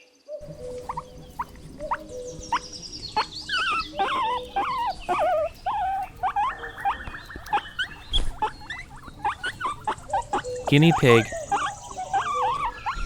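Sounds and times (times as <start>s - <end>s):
guinea pig squeaking: 0.4s - 13.0s.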